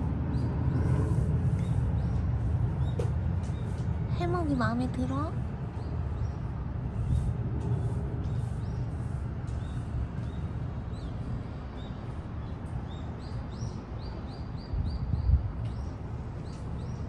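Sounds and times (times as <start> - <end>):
low background rumble: 0.0 - 17.0
small birds chirping: 0.3 - 17.0.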